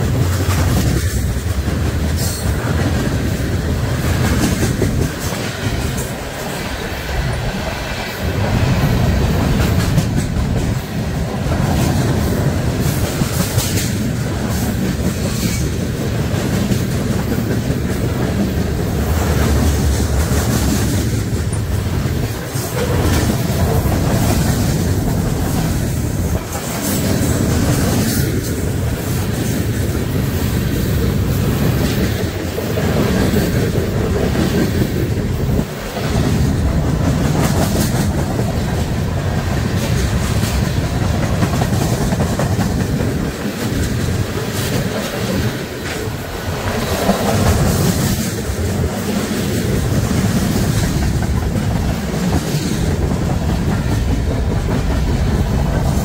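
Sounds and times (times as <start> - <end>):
train rumbling past: 0.0 - 56.0
wheels clicking over rail joints: 0.0 - 56.0.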